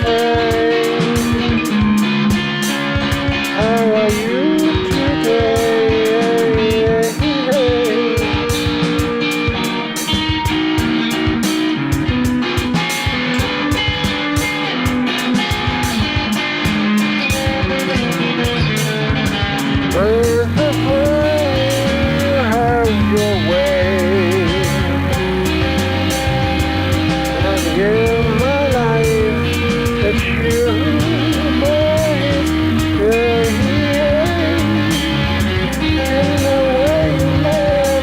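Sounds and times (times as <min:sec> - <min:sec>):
electric guitars playing rock: 0:00.0 - 0:38.0
steady beat: 0:00.0 - 0:38.0.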